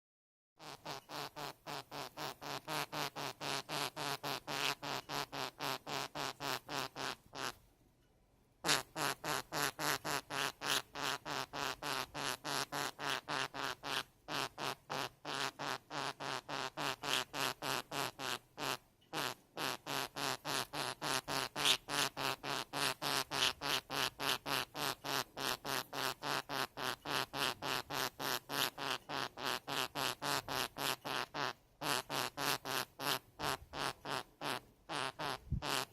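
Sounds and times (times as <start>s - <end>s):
budgie making pulsing noise: 0.6s - 7.6s, 8.7s - 35.9s.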